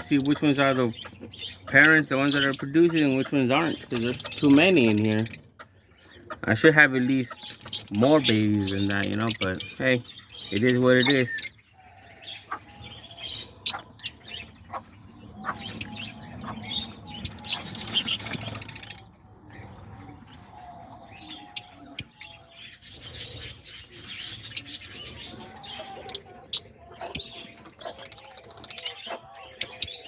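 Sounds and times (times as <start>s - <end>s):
lovebirds chirping and chattering: 0.0s - 30.0s.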